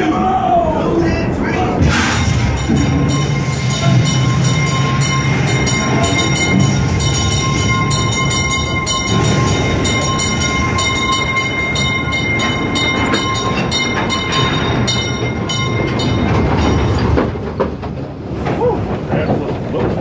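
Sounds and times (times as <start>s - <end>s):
ride train rumbling on track: 0.0s - 20.0s.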